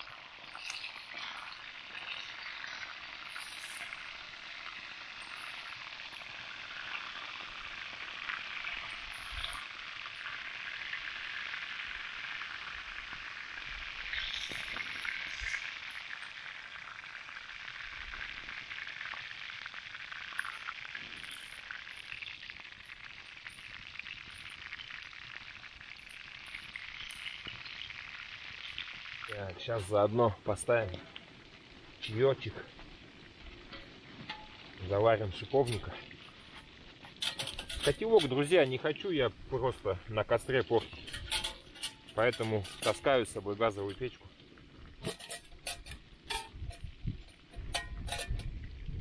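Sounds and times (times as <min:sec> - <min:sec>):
chicken sizzling in a pan: 0:00.0 - 0:49.0
oil popping: 0:00.0 - 0:49.0.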